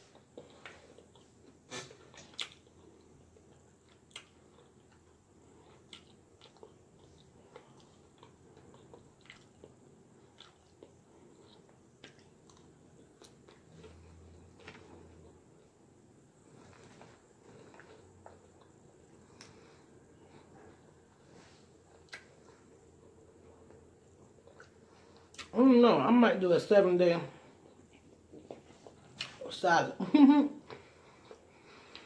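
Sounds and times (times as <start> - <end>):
chewing crunchy salad: 0.0 - 25.6, 30.7 - 32.0.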